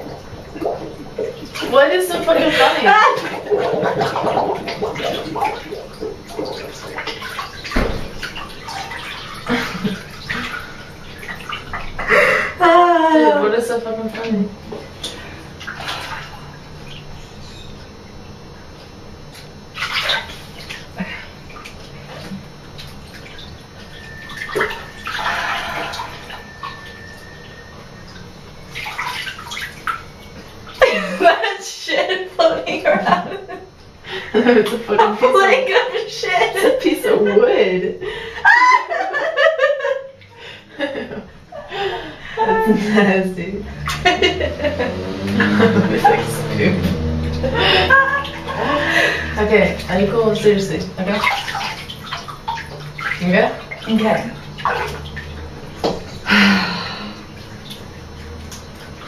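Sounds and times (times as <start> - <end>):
bathwater sloshing and splashing: 0.0 - 59.0.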